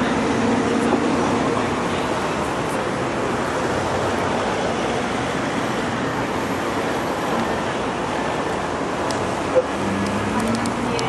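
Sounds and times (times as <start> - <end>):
steady rushing background noise: 0.0 - 11.0.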